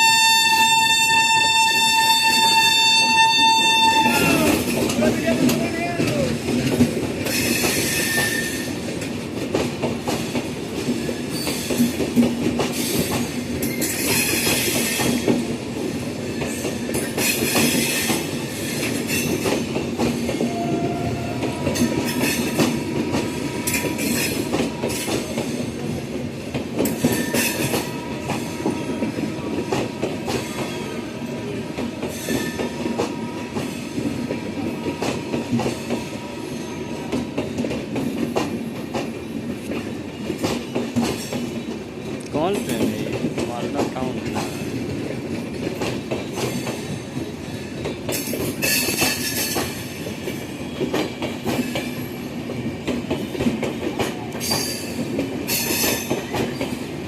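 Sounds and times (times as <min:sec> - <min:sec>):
train wheels clattering: 0:00.0 - 0:57.0.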